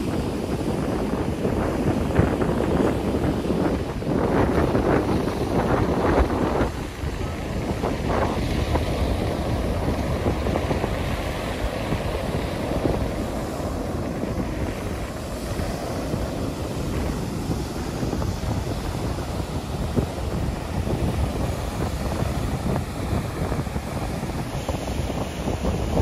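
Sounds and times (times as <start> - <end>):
ocean waves on beach: 0.0 - 26.0
wind buffeting microphone: 0.0 - 26.0.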